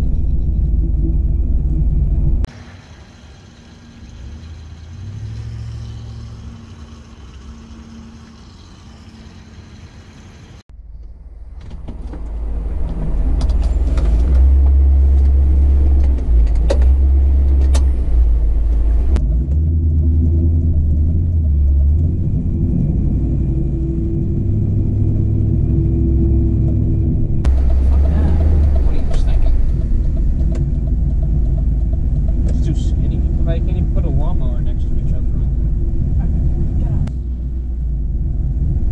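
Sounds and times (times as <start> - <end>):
low rumble of engine: 0.0 - 38.9.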